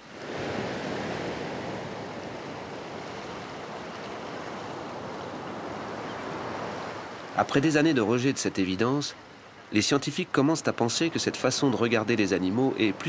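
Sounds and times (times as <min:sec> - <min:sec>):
small waves breaking on beach: 0:00.0 - 0:13.0.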